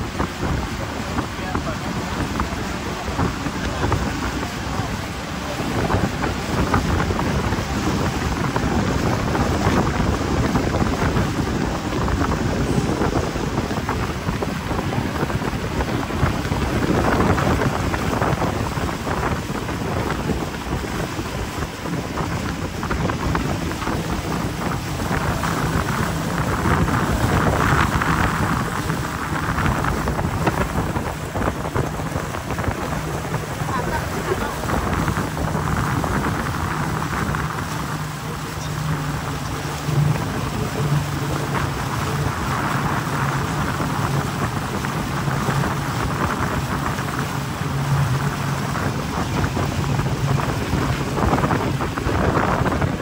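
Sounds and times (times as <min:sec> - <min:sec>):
outboard engine drone: 0:00.0 - 0:53.0
water against boat hull: 0:00.0 - 0:53.0
wind rushing over microphone: 0:00.0 - 0:53.0.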